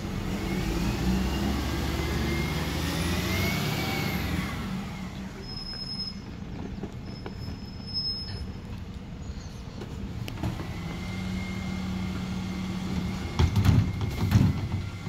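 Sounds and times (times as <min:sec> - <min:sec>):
garbage truck running: 0:00.0 - 0:08.8, 0:09.9 - 0:15.0.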